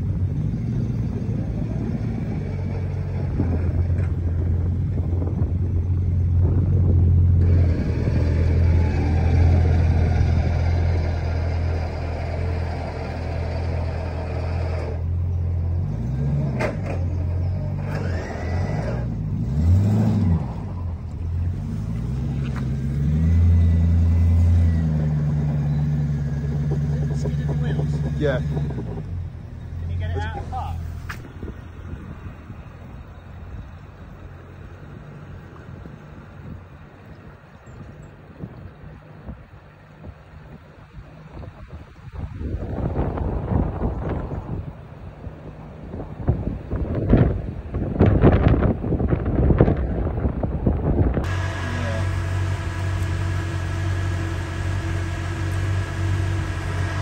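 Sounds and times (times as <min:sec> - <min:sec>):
car engine under load: 0:00.0 - 0:57.0.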